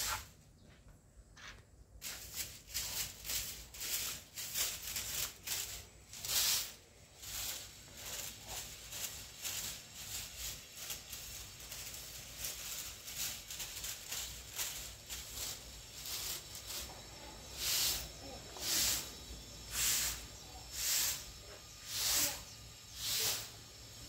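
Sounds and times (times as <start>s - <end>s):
broom bristles scraping tiles: 0.0s - 0.3s, 2.0s - 23.6s.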